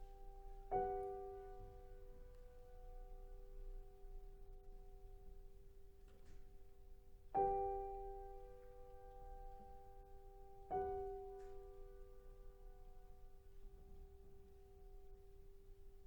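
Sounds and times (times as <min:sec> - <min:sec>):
piano-like chords ringing: 0:00.0 - 0:16.0.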